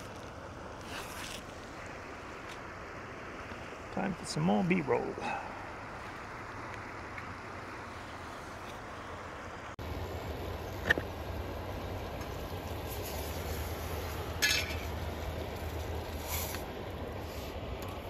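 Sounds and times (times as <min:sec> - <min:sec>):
camp stove burning: 0:00.0 - 0:18.0
riverside ambience: 0:00.0 - 0:18.0.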